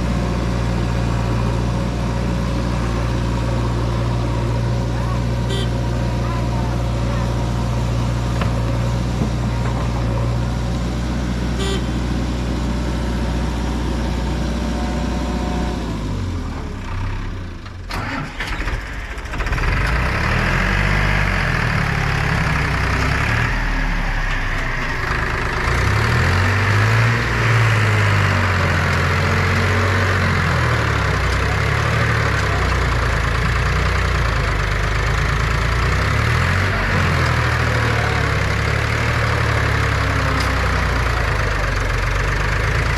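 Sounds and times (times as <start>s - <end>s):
diesel machinery engine revving: 0.0s - 42.9s.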